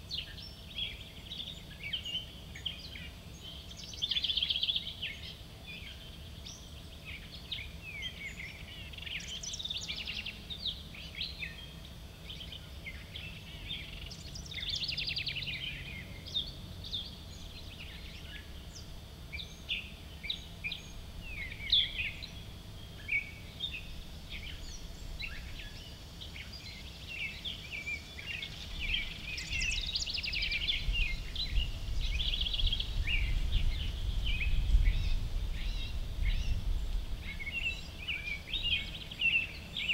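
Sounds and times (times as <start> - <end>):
low outdoor rumble: 0.0 - 39.9
songbirds chirping and trilling: 0.0 - 39.9.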